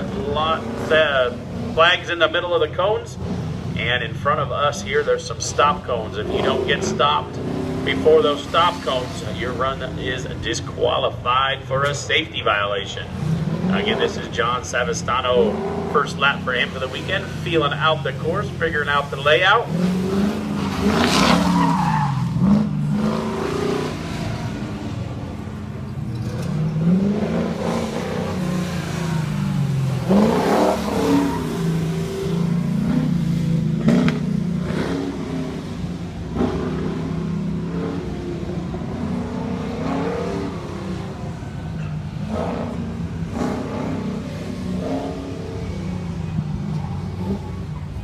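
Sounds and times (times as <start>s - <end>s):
car engine revving hard: 5.6s - 10.1s, 13.1s - 47.7s.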